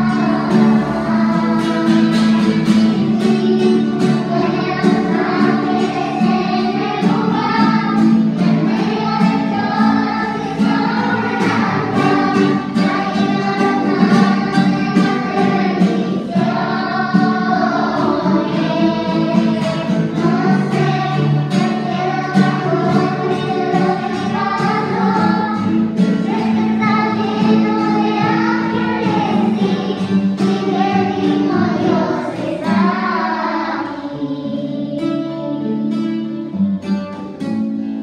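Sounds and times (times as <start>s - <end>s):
voices singing: 0.0s - 35.7s
guitar: 0.0s - 38.0s.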